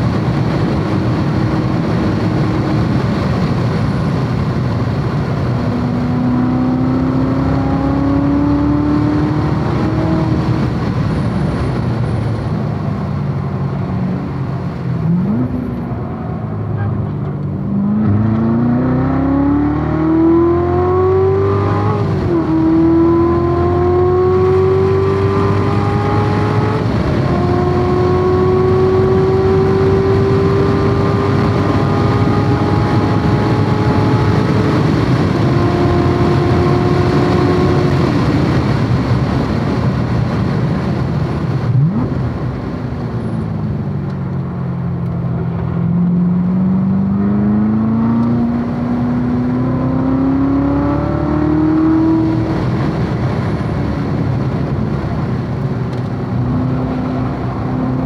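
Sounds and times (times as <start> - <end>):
car engine at full throttle: 0.0 - 58.0.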